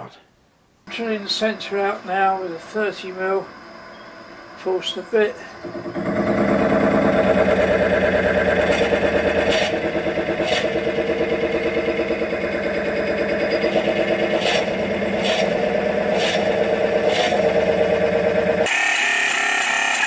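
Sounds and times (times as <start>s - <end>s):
wood lathe humming: 0.9s - 20.0s.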